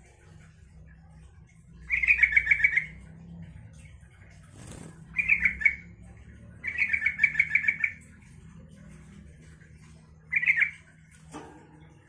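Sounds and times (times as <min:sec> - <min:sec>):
bulbul singing: 0:00.1 - 0:12.0.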